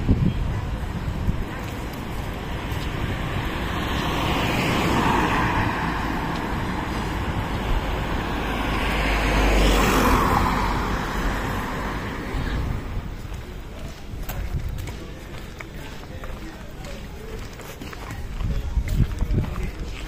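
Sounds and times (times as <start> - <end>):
cars passing by: 0.0 - 20.0.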